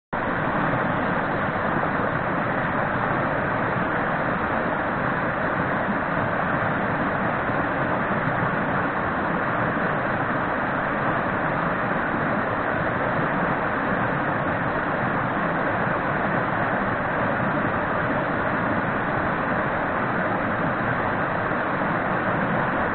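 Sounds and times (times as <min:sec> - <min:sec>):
stream water rushing: 0:00.2 - 0:22.9.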